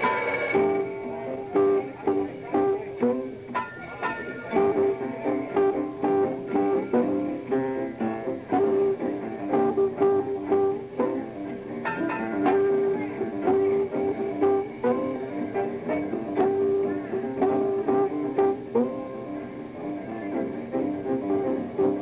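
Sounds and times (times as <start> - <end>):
guitar plucked notes: 0.0 - 22.0
jazz combo playing: 0.0 - 22.0.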